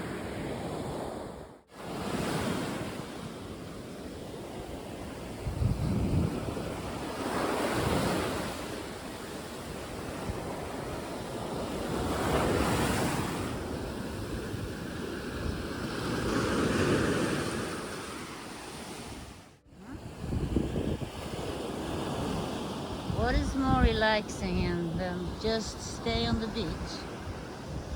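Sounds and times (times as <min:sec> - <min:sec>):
waves breaking on shore: 0:00.0 - 0:27.9
wind rumbling on microphone: 0:04.4 - 0:27.9.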